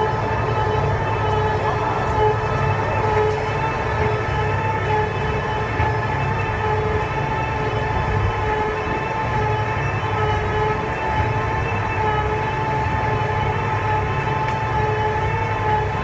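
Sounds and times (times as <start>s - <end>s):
feed mixer wagon droning: 0.0s - 16.0s.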